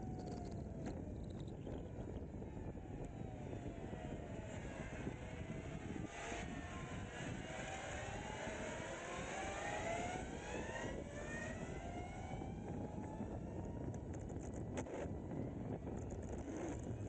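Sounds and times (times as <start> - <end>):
electric motorcycle motor whining: 0.0 - 17.0.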